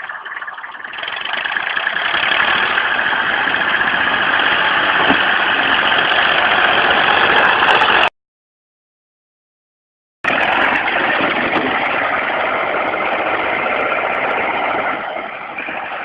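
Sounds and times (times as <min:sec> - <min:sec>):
vehicle engine running loudly: 0:00.0 - 0:08.1, 0:10.2 - 0:16.0.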